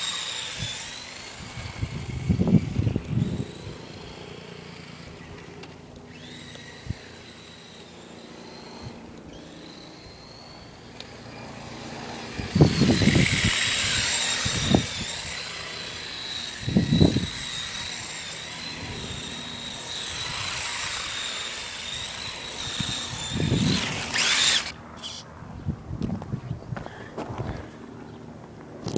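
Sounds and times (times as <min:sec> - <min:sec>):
remote control car motor whine: 0:00.0 - 0:25.3.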